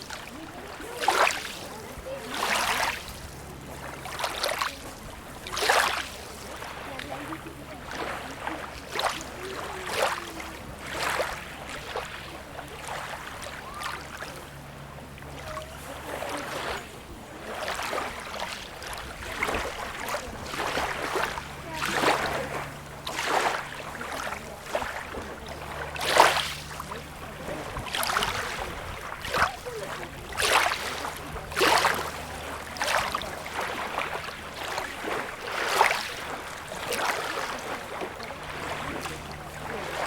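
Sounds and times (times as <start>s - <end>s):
small waves lapping: 0.0s - 40.0s.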